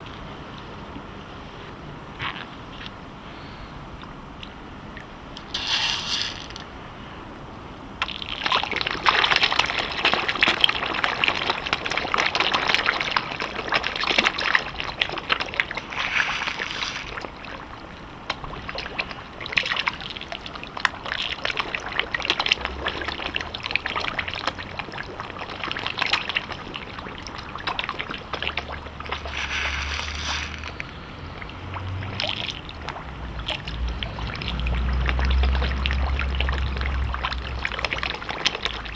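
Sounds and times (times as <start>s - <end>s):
fish slurping at water surface: 5.4s - 6.6s, 8.0s - 38.9s.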